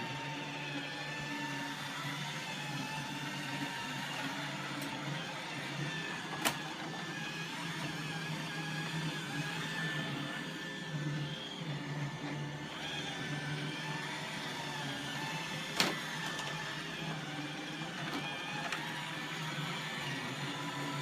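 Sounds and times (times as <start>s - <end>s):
robot vacuum motor and brush: 0.0s - 21.0s.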